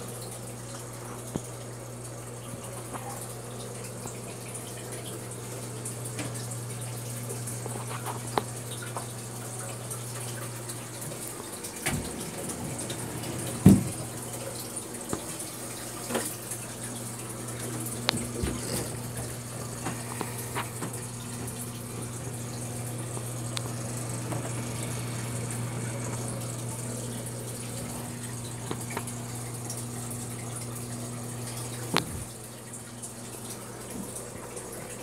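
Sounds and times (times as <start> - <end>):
filter pump hum: 0.0 - 35.0
water trickling and splashing: 0.0 - 35.0.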